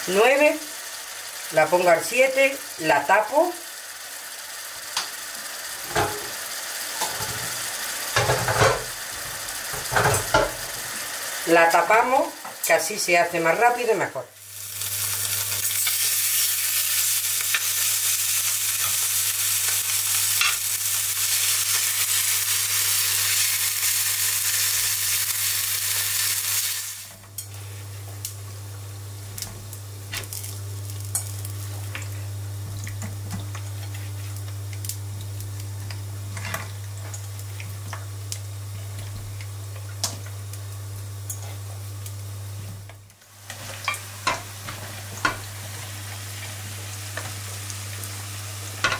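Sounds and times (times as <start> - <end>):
food frying in hot oil: 0.0 - 48.9.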